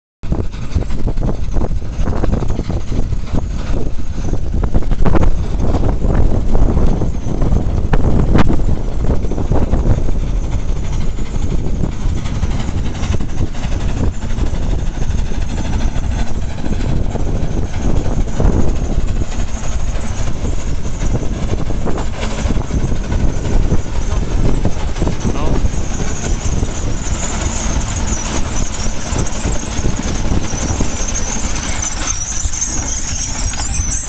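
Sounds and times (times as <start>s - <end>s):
steam tractor chuffing and rattling: 0.2s - 34.0s
wind buffeting microphone: 0.2s - 34.0s.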